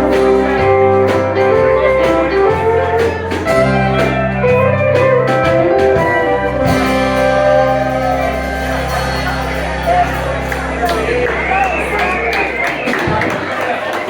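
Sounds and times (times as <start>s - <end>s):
drum hits: 0.0s - 13.5s
country band playing: 0.0s - 14.0s
guitar: 0.0s - 14.0s.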